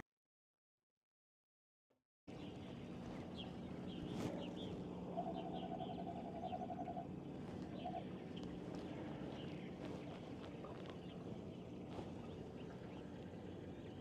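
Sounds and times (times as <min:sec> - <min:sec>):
birds chirping: 0:02.3 - 0:14.0
steady low hum: 0:02.3 - 0:14.0.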